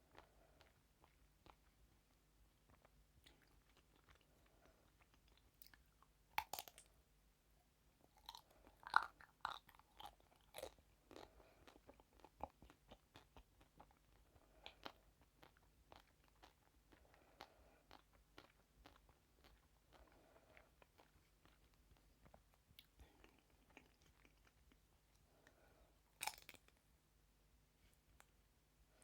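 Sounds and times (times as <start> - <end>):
crunchy chewing: 0.0 - 1.8, 2.6 - 6.9, 8.1 - 25.6, 26.2 - 26.8.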